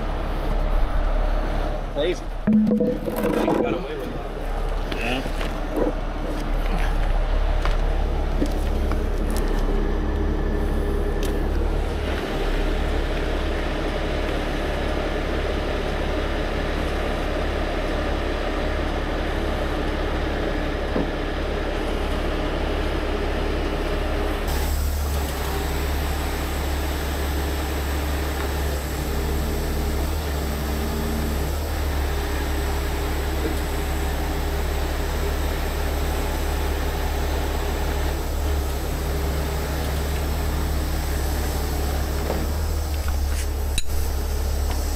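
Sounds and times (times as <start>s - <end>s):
diesel engine droning: 0.0s - 44.9s.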